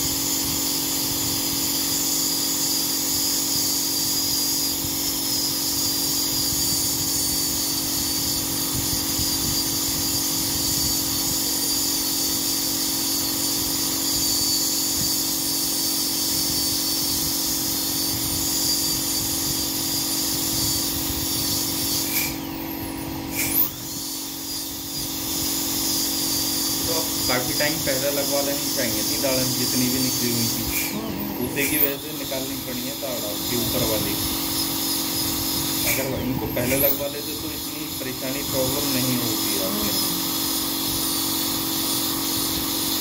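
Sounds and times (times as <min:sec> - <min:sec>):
dental drill whining: 0:00.0 - 0:43.0.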